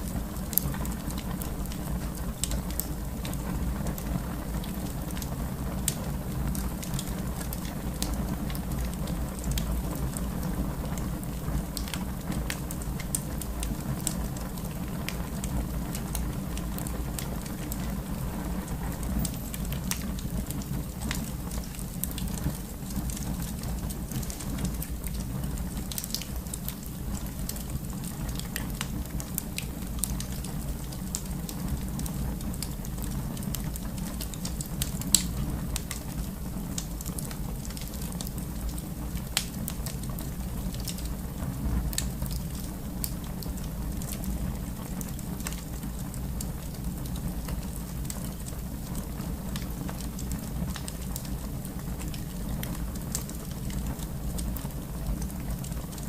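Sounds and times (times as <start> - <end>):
fire crackles and pops: 0.0 - 56.0
flames rumbling: 0.0 - 56.0.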